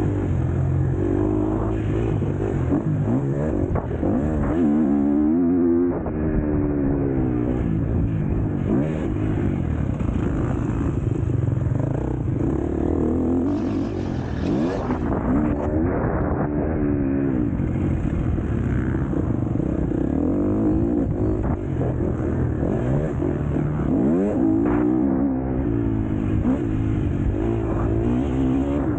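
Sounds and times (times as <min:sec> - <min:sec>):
motocross engine revving: 0:00.0 - 0:28.9.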